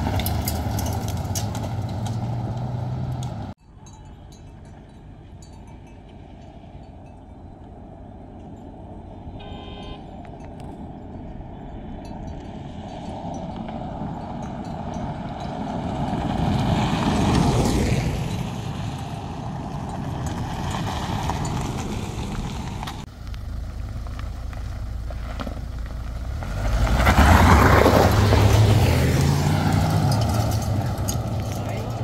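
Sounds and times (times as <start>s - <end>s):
cars passing on dirt road: 0.0s - 32.0s.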